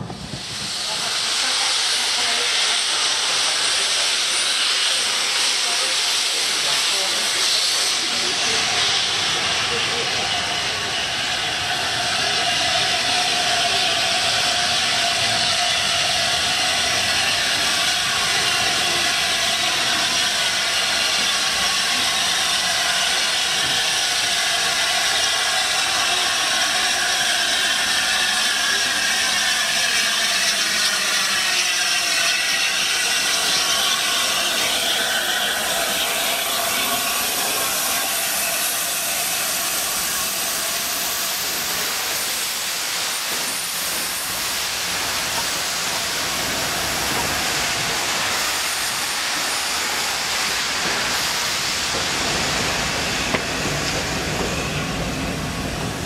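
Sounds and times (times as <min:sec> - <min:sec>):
steam hissing from locomotive: 0:00.0 - 0:56.0.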